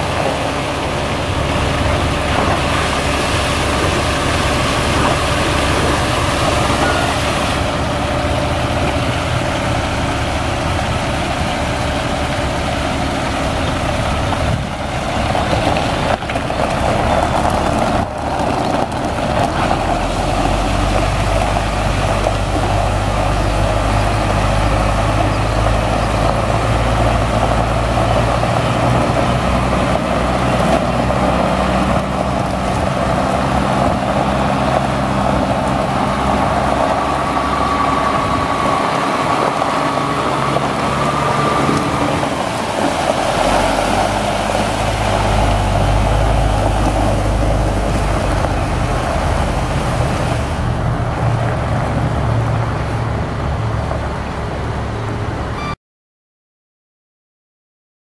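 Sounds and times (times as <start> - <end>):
diesel truck engine running: 0.0 - 55.8.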